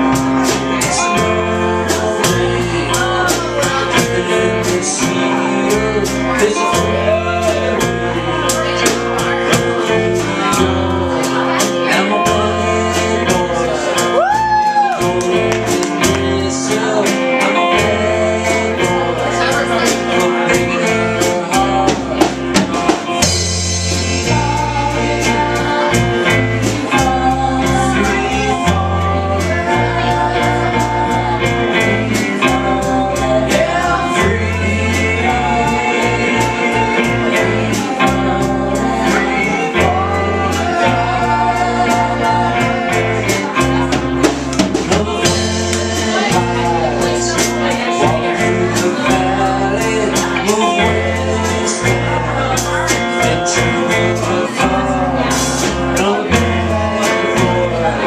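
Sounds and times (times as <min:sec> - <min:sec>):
drum kit beat: 0:00.0 - 0:58.0
electric bass: 0:00.0 - 0:58.0
electric guitars: 0:00.0 - 0:58.0
person singing: 0:00.0 - 0:58.0.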